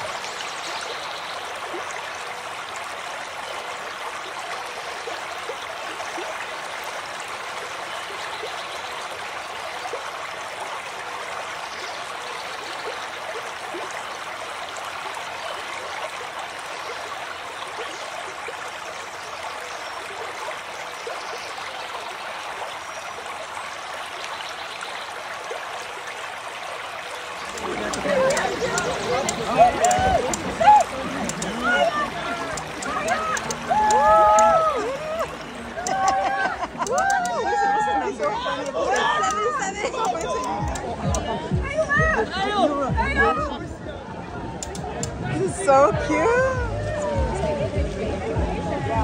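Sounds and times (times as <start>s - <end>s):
water splashing from swimming strokes: 0.0s - 43.6s.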